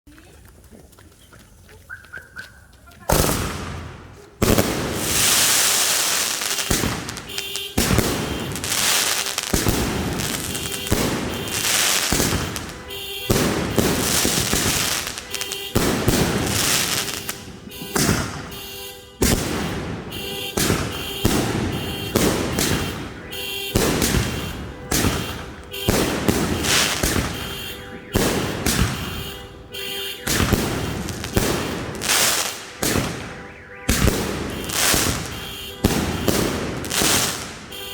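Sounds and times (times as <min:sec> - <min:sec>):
fireworks bangs: 0:03.0 - 0:37.9
fireworks crackling: 0:03.0 - 0:37.9.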